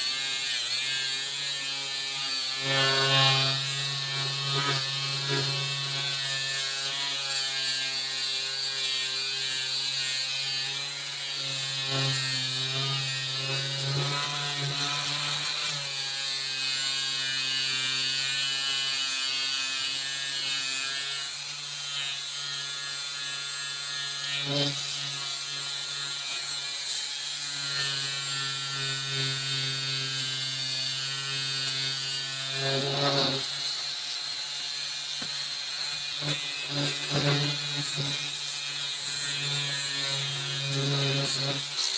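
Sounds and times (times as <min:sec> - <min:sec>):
angle grinder grinding steel: 0:00.0 - 0:41.9
grinder scraping metal: 0:00.0 - 0:41.9.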